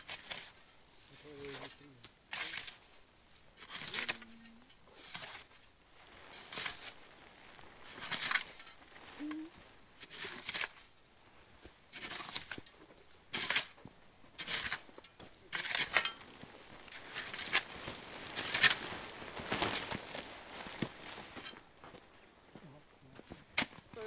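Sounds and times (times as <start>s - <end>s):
snow crunching: 0.0s - 24.0s.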